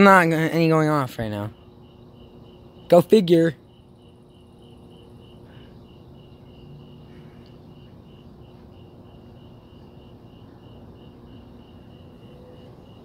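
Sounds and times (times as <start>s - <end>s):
cricket chirping: 0.0s - 13.0s
outdoor background noise: 0.0s - 13.0s.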